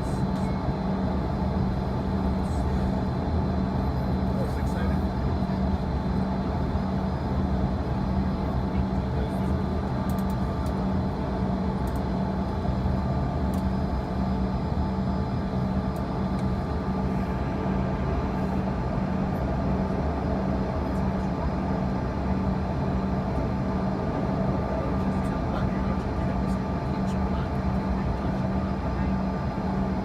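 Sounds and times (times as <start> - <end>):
jet engines idling cabin drone: 0.0 - 30.0.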